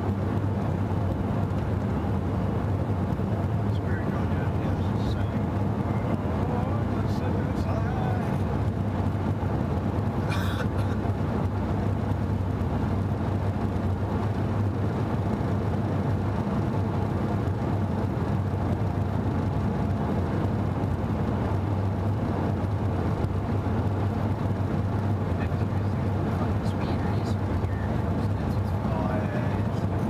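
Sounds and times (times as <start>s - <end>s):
car engine hum in cabin: 0.0s - 30.0s.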